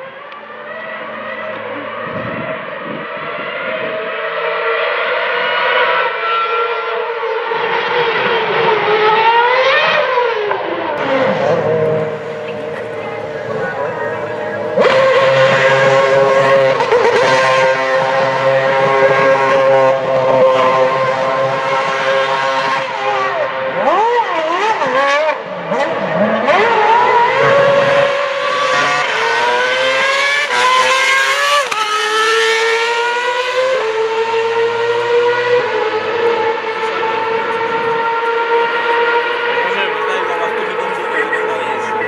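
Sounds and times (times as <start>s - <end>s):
racing car engine at high revs: 0.0s - 42.0s.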